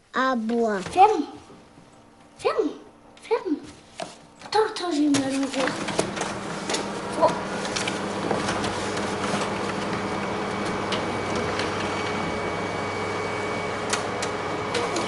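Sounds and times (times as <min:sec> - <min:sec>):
photocopier humming: 0:00.2 - 0:15.0.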